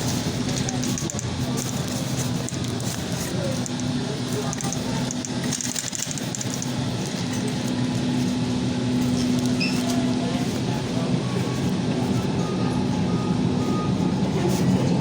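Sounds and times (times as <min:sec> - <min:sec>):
shopping cart rattling: 0:00.0 - 0:12.3.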